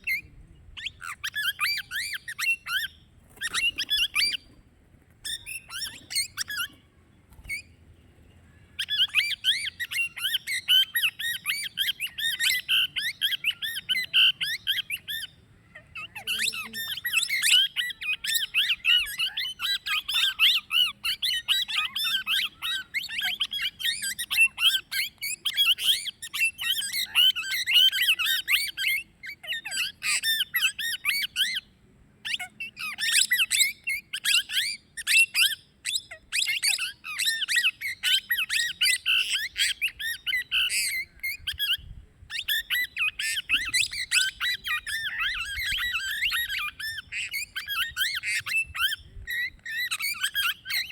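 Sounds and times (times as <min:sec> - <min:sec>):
parakeet chattering squawks: 0:00.0 - 0:04.5, 0:05.2 - 0:06.9, 0:08.7 - 0:50.9.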